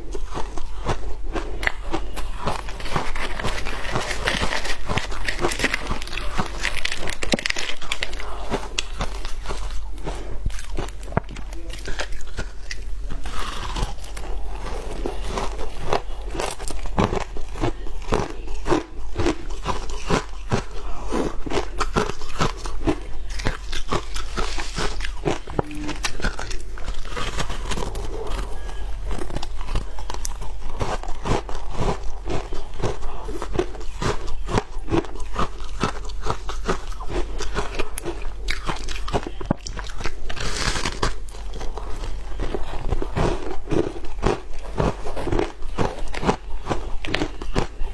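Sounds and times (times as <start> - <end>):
shaved ice crunching: 1.9 - 36.1, 37.1 - 47.9.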